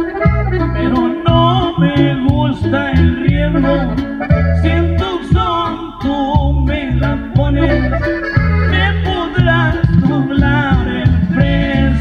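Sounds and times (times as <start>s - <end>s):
accordion melody: 0.0s - 12.0s
rhythmic bass line: 0.0s - 12.0s.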